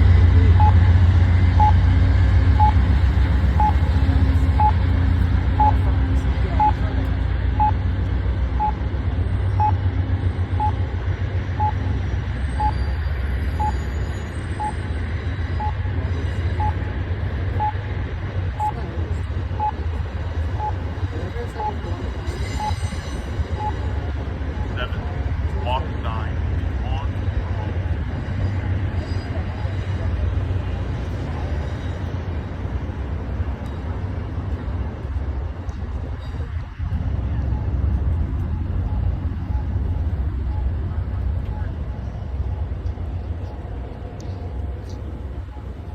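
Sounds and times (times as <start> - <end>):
train rumbling over bridge: 0.0 - 45.9.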